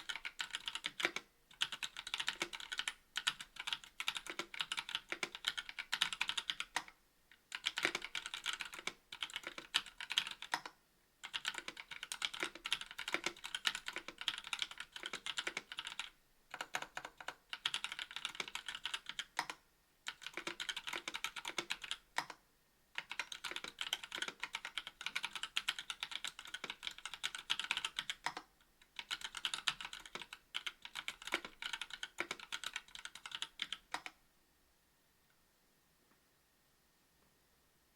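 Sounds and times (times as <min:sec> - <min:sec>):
fast typing on mechanical keyboard: 0:00.0 - 0:06.9, 0:07.5 - 0:22.3, 0:23.0 - 0:34.2.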